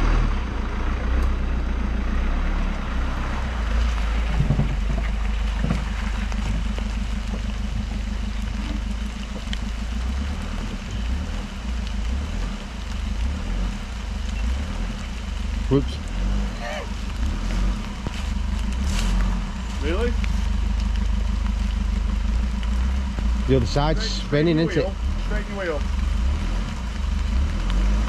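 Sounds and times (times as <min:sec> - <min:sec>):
diesel van engine running: 0:00.0 - 0:28.0.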